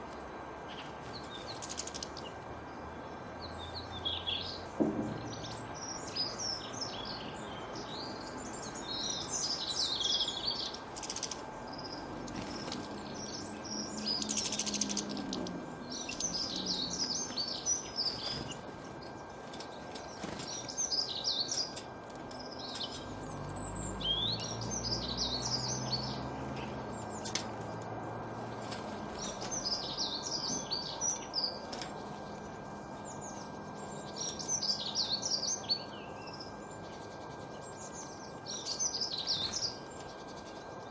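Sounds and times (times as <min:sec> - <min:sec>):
birds chirping: 0:00.0 - 0:40.9
low hum: 0:02.1 - 0:40.9.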